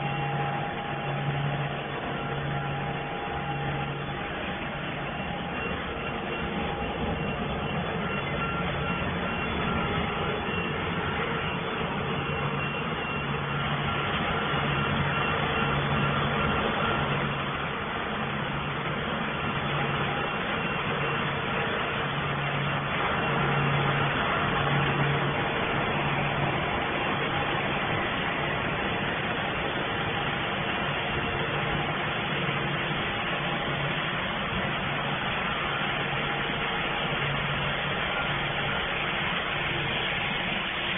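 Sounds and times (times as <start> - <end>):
low motor hum: 0.0 - 40.9
machinery running: 0.0 - 40.9.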